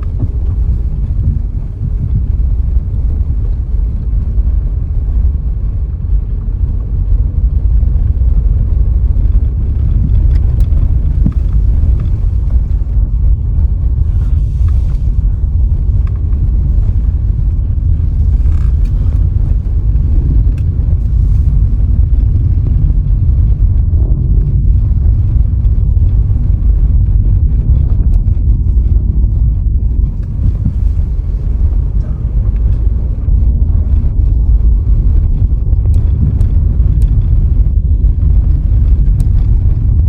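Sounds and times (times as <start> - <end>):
car driving on road: 0.0 - 40.0.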